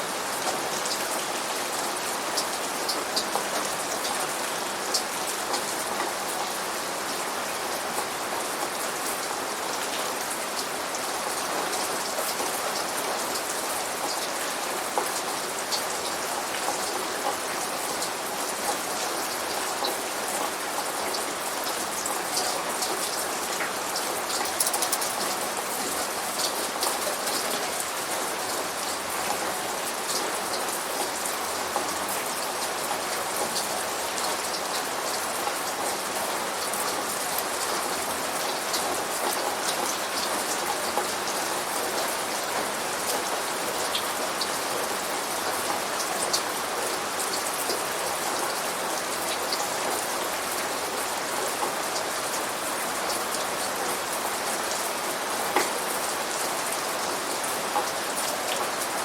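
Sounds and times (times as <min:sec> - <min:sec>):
rain drops pattering: 0:00.1 - 0:59.0.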